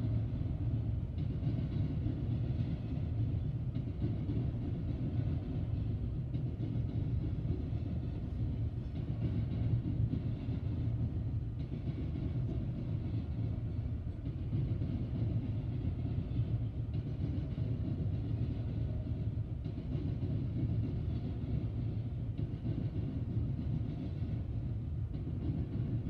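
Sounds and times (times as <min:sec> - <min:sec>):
muffled freight train wheels rumbling: 0:00.0 - 0:26.0.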